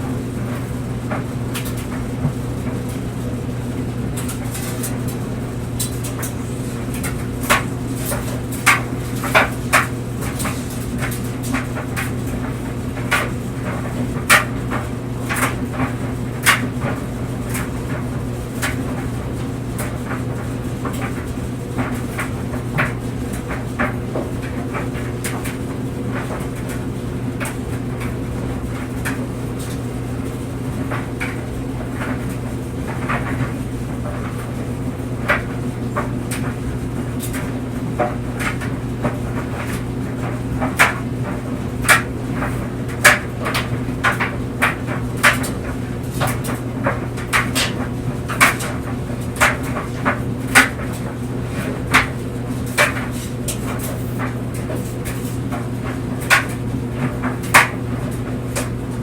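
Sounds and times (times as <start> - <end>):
clothes dryer humming: 0.0 - 59.0
clothes knocking in dryer drum: 0.0 - 59.0.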